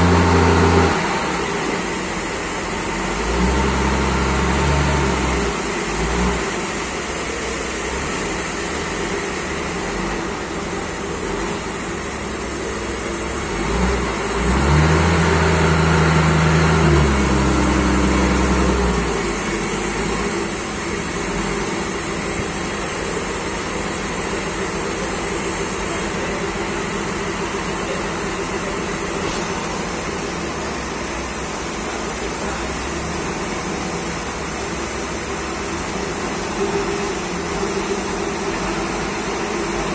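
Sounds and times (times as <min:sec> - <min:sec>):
forklift engine revving: 0:00.0 - 0:39.9.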